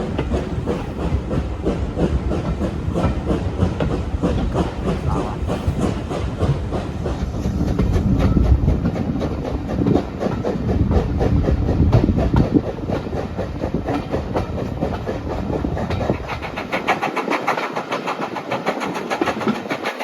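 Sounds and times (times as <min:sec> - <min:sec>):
coaches clattering on rails: 0:00.0 - 0:20.0
steam locomotive chuffing: 0:00.0 - 0:20.0.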